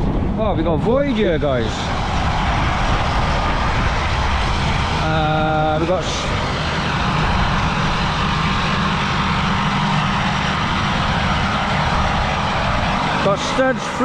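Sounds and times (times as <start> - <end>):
fairground ride mechanical drone: 0.0 - 14.0.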